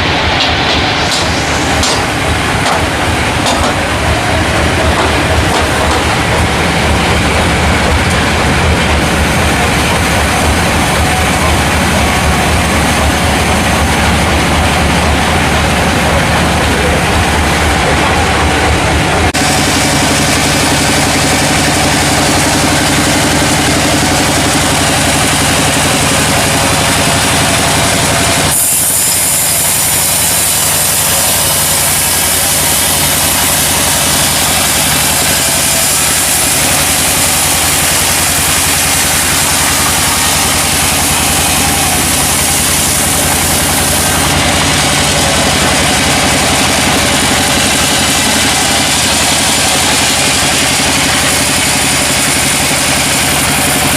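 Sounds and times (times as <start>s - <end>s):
sawmill saw running: 0.0s - 53.9s.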